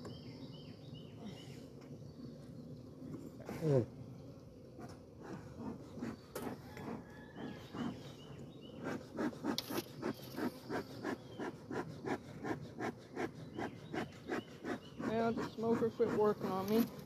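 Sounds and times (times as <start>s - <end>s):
honeybees buzzing: 0.0s - 17.0s
bee smoker bellows puffing: 3.0s - 17.0s.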